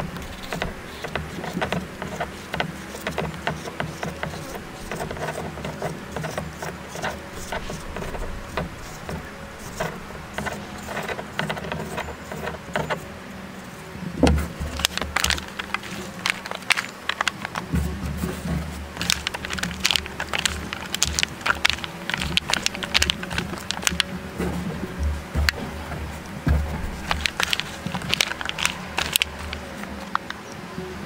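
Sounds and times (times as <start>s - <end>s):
foil pan crinkling: 0.0s - 13.0s, 14.5s - 30.4s
pepper strips rustling: 0.0s - 13.0s, 14.4s - 30.4s.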